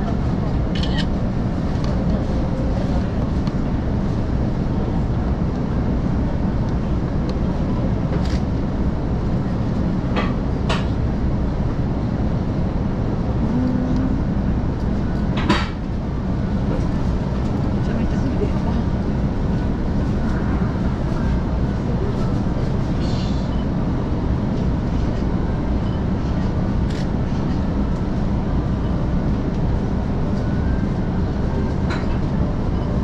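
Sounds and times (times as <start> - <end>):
railcar engine rumble: 0.0 - 33.0.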